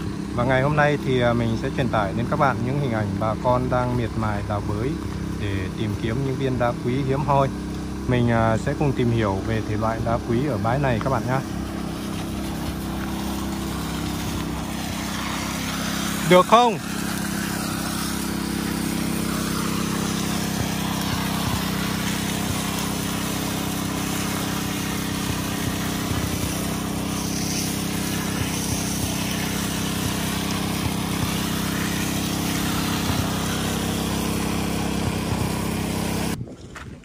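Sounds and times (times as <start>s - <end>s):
water jet hissing onto gravel: 0.0s - 36.4s
engine-driven water pump running: 0.0s - 37.0s.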